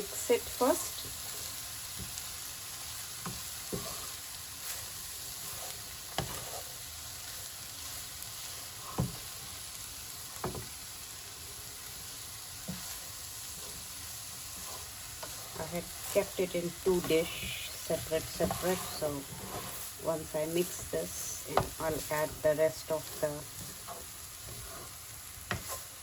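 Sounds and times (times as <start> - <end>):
rice and vegetables sizzling in pan: 0.0 - 26.0.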